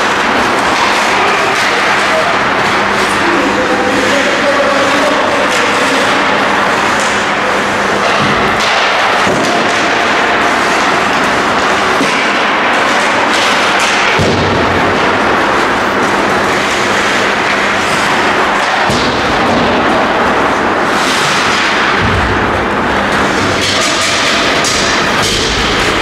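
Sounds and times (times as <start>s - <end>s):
loud steady rushing rumble: 0.0s - 26.0s.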